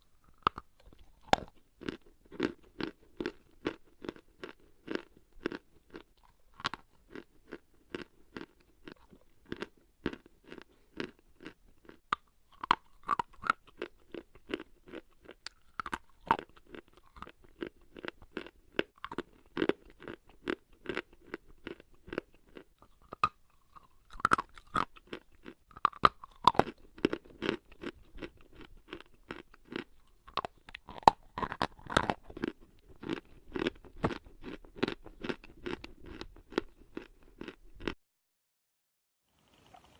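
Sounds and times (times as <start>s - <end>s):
chalk crunching while chewed: 0.0s - 38.0s.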